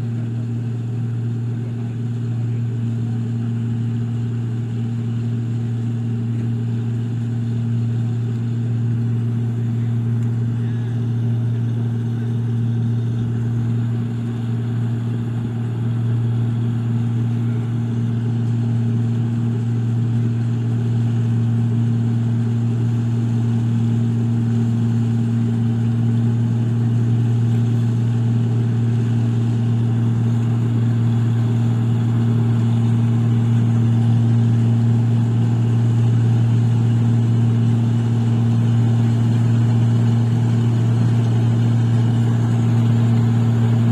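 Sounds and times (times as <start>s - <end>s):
machine engine droning: 0.0s - 43.9s.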